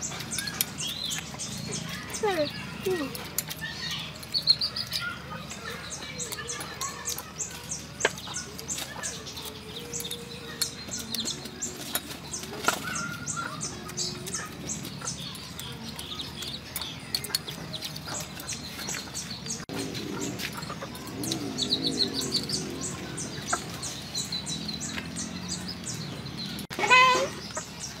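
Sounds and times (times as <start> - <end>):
birds chirping: 0.0 - 28.0
chickens clucking: 0.0 - 28.0.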